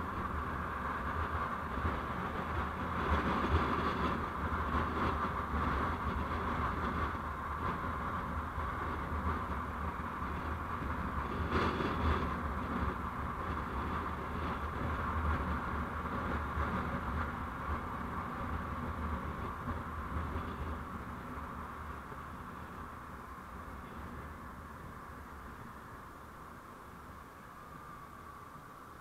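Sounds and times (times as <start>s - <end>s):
vehicle road and engine noise: 0.0s - 29.0s.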